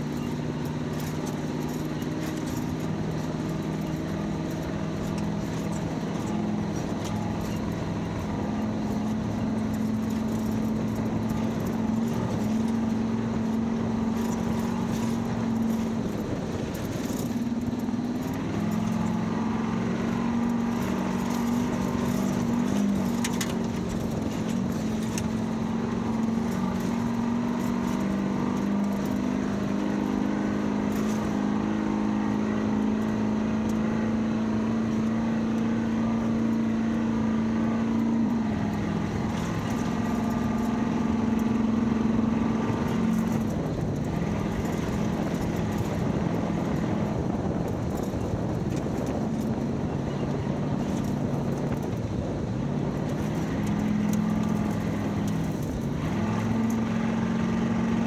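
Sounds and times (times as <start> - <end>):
car engine running: 0.0 - 58.0
road noise hum: 0.0 - 58.0.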